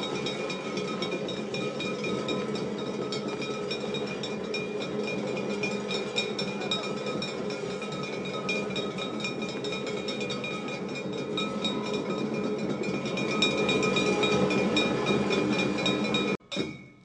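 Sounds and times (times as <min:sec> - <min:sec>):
rapid percussion: 0:00.0 - 0:16.8
metallic ringing tone: 0:00.0 - 0:17.0.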